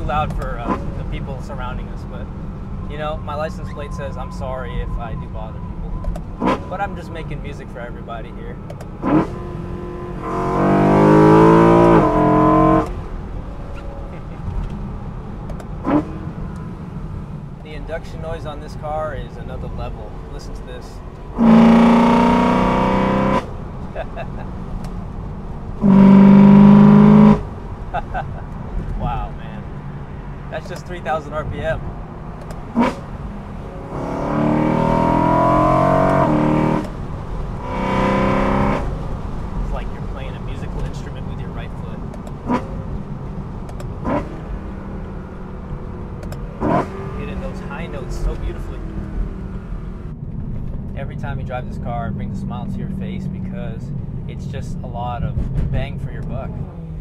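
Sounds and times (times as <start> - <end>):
car cruising with low rush: 0.0 - 57.0
car engine accelerating hard: 0.0 - 57.0.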